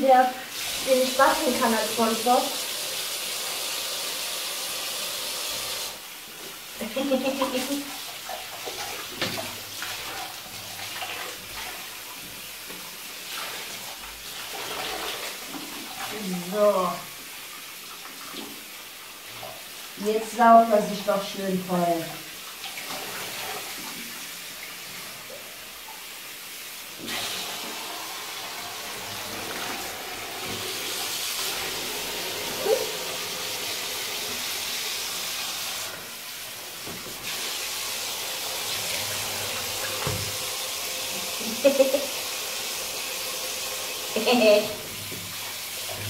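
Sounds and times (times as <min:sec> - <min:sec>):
water running onto sponge: 0:00.0 - 0:46.0.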